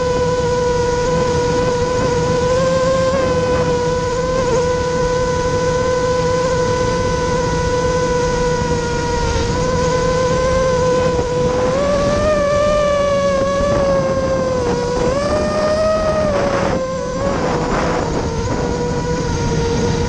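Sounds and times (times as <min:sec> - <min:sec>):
quadcopter motors whining: 0:00.0 - 0:20.0
wind rumble on microphone: 0:00.0 - 0:20.0.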